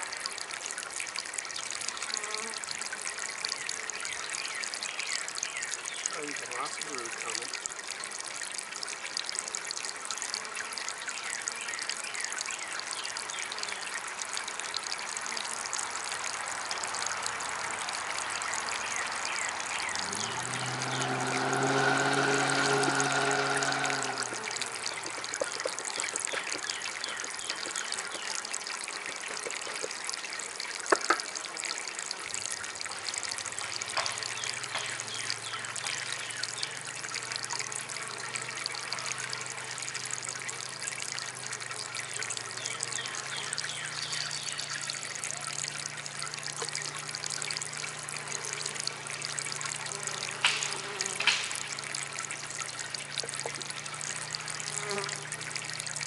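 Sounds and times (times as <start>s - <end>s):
water trickling from fountain: 0.0s - 56.0s.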